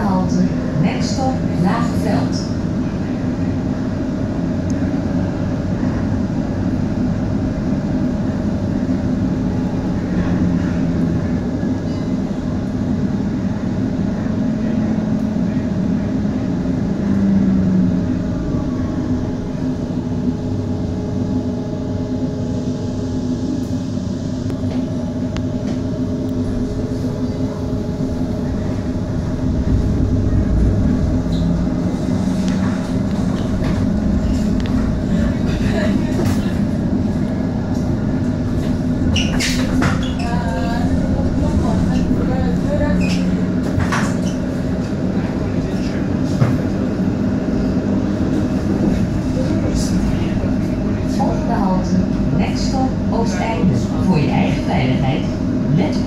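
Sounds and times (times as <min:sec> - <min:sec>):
tram drive humming and rumbling: 0:00.0 - 0:56.0.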